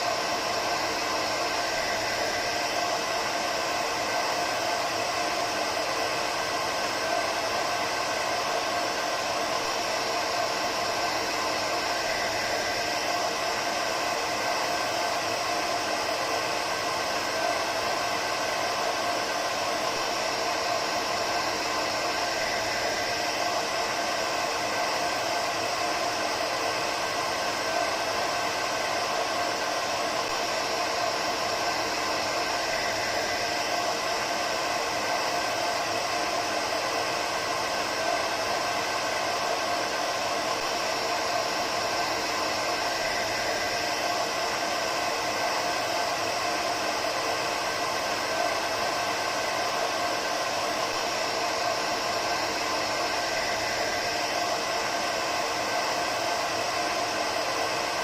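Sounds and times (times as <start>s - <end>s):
faint motor whine: 0.0s - 58.0s
hair dryer air rushing: 0.0s - 58.0s.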